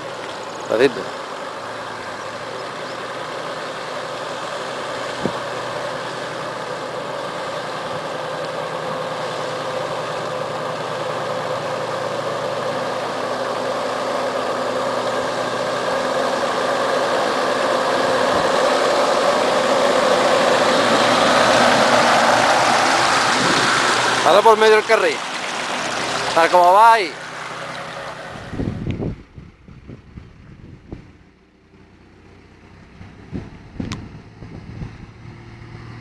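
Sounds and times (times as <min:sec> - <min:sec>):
car engine running: 0:00.0 - 0:36.0
vehicle wading through water: 0:00.0 - 0:36.0.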